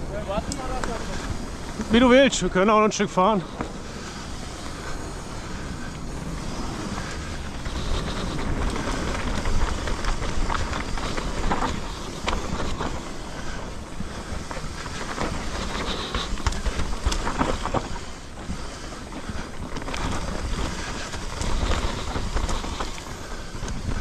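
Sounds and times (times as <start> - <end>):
tyres rolling on dirt: 0.0 - 24.0
wind buffeting microphone: 0.0 - 24.0
bike clicks and knocks: 3.5 - 24.0.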